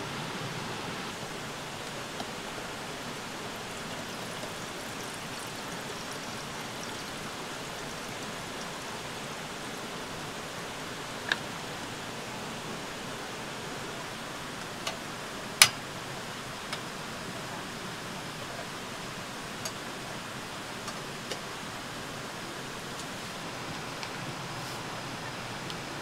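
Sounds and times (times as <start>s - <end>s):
running water hiss: 0.0s - 26.0s.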